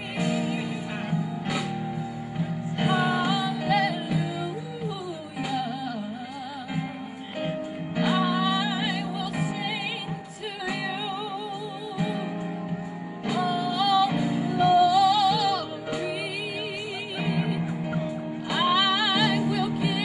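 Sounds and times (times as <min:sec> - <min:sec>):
instrumental backing chords: 0:00.0 - 0:20.0
woman singing gospel: 0:00.0 - 0:20.0.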